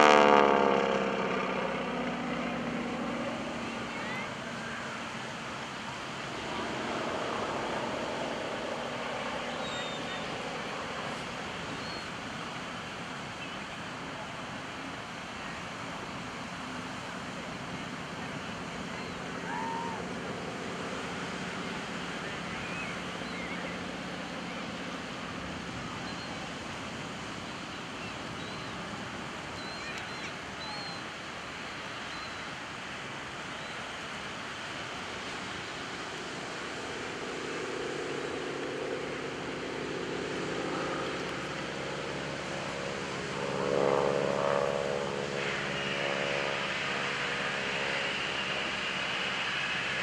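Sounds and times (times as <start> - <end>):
distant propeller plane engine drone: 0.0 - 50.0
surf rushing: 0.0 - 50.0
wind: 0.0 - 50.0.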